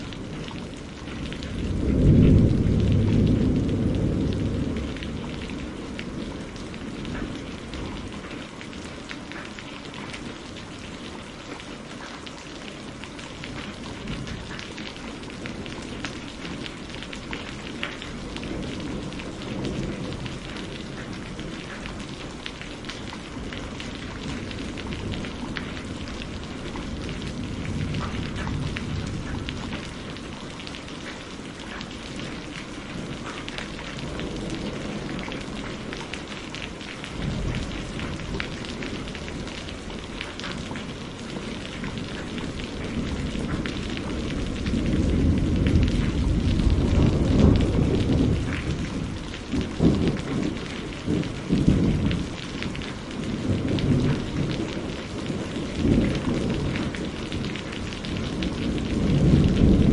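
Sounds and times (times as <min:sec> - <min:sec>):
thunder rumbling: 0:00.0 - 0:09.1, 0:12.7 - 0:59.9
rain falling: 0:00.0 - 0:59.9.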